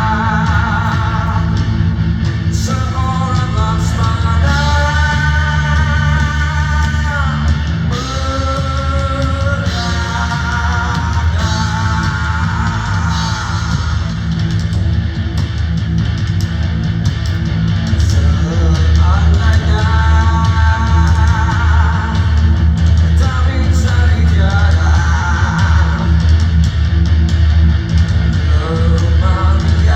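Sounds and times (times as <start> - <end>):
live rock band playing: 0.0 - 29.9.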